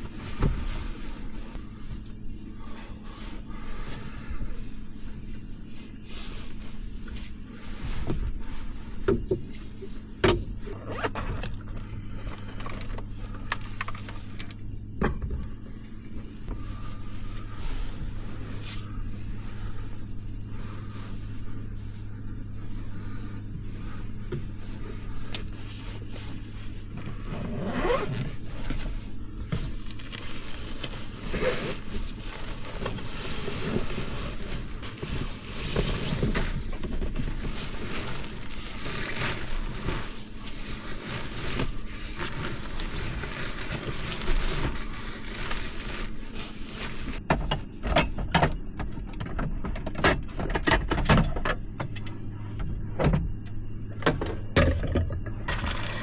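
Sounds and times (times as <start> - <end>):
rustling and scraping handling: 0.0 - 15.0, 15.8 - 47.9, 55.5 - 56.0
steady low hum: 0.0 - 56.0.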